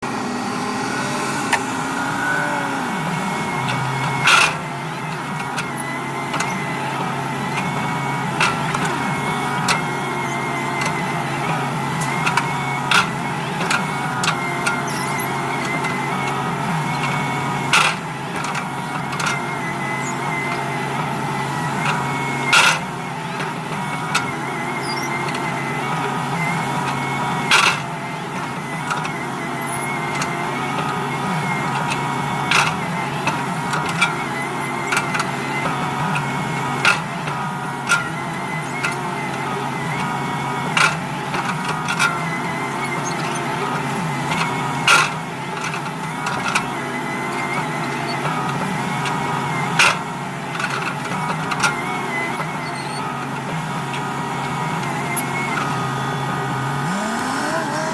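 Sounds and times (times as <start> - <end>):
excavator engine hum: 0.0 - 57.9.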